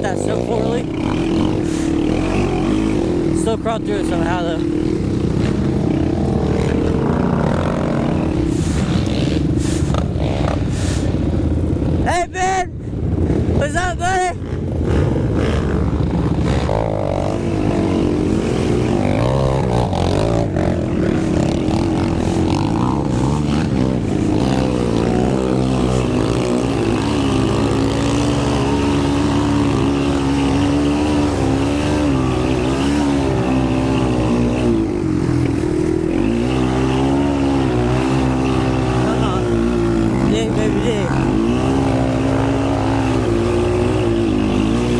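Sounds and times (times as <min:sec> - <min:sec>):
quad engine revving: 0:00.0 - 0:12.0, 0:14.4 - 0:44.9.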